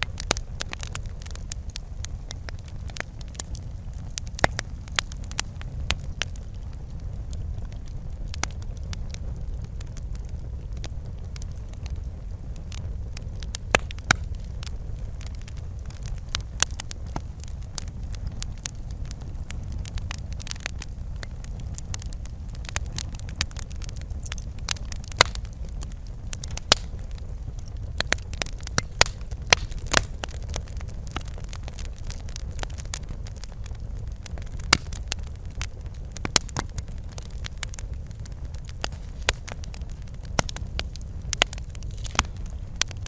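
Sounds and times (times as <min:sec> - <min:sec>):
fire popping and snapping: 0:00.0 - 0:43.0
low rumble of burning: 0:00.0 - 0:43.0
wood fire crackling: 0:00.0 - 0:43.0.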